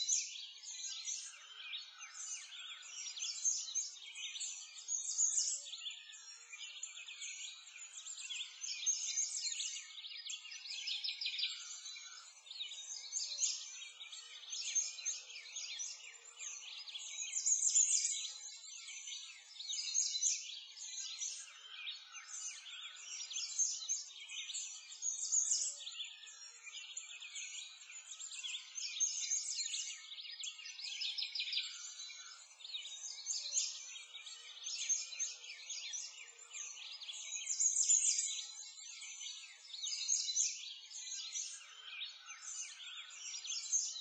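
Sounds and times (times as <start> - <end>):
songbirds chirping: 0.0 - 44.0.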